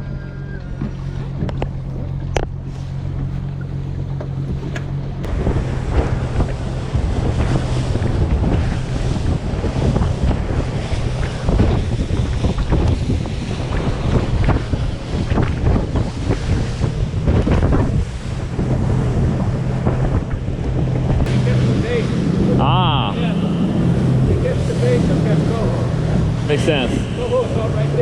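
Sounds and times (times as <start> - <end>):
boat motor humming: 0.0 - 28.0
rough water noise: 0.0 - 28.0
wind buffeting microphone: 0.0 - 28.0.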